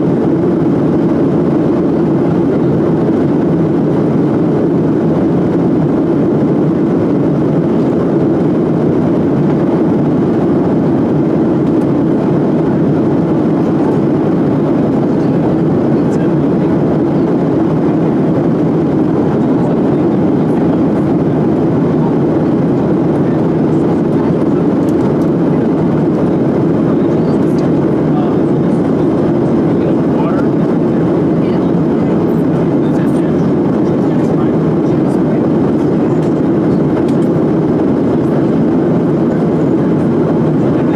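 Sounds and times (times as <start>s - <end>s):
jet engines and airflow rush: 0.0s - 40.9s.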